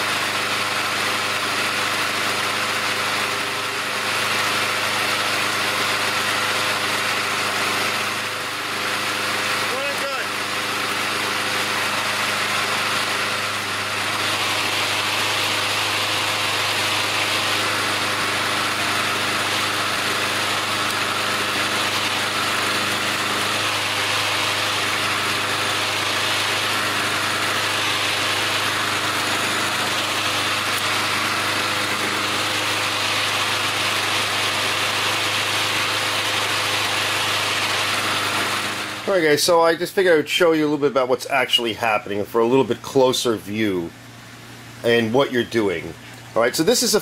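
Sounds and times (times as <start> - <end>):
lawnmower engine running: 0.0 - 47.0.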